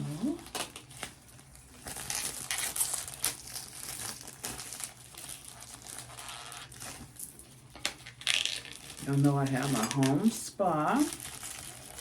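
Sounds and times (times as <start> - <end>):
packing paper crinkling: 0.2 - 12.0.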